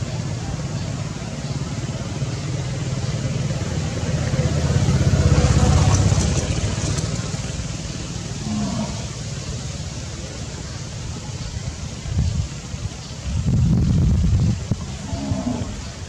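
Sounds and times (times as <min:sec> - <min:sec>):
passing vehicle engine rumble: 0:00.0 - 0:16.0.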